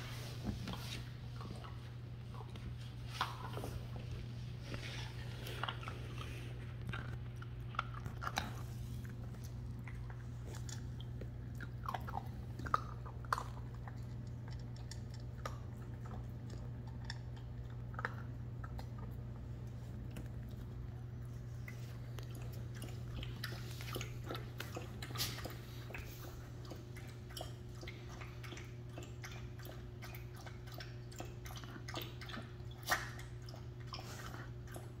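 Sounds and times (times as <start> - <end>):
puppy crunching dry kibble: 0.0 - 35.0
steady low hum: 0.0 - 35.0.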